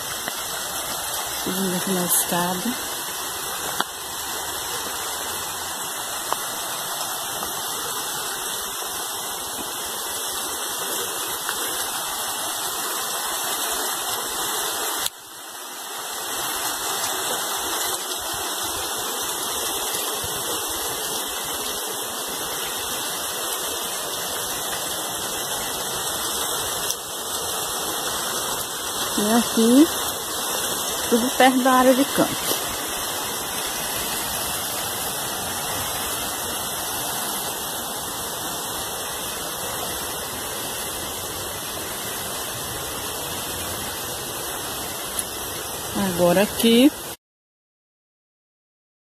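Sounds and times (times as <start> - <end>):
water rushing and splashing: 0.0 - 47.2.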